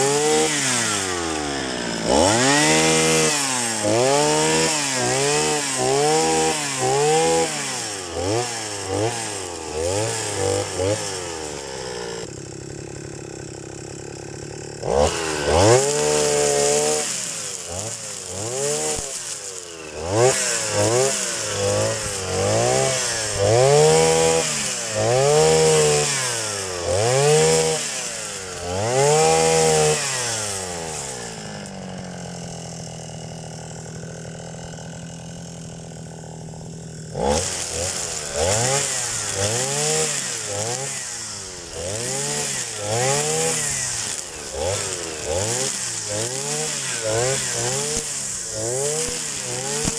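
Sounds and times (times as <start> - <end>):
brush cutter engine revving: 0.0 - 49.9.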